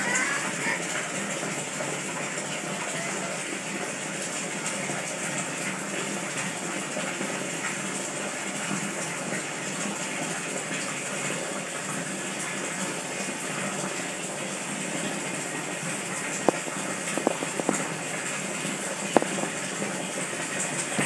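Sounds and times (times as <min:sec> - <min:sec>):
water falling and splashing: 0:00.0 - 0:21.0.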